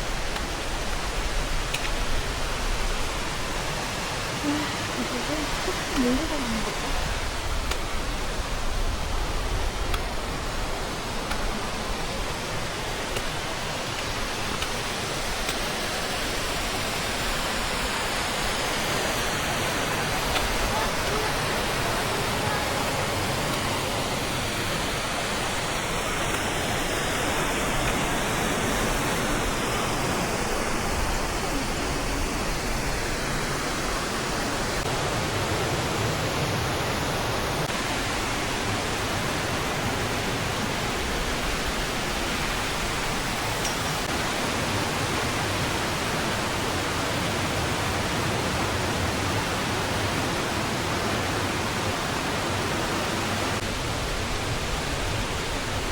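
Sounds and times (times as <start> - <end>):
rushing stream water: 0.0 - 55.9.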